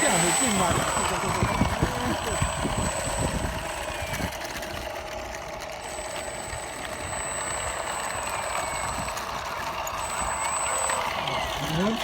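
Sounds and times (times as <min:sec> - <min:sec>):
model motor whining: 0:00.0 - 0:12.0.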